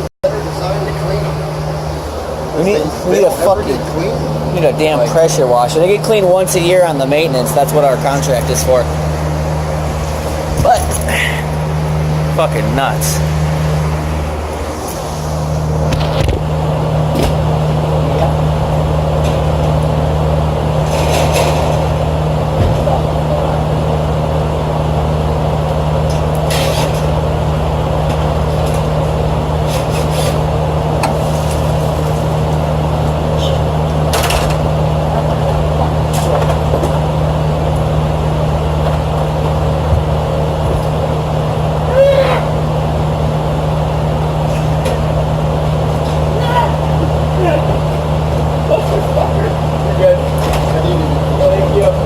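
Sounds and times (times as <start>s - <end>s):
fans rushing: 0.0s - 52.0s
hvac motor hum: 0.0s - 52.0s.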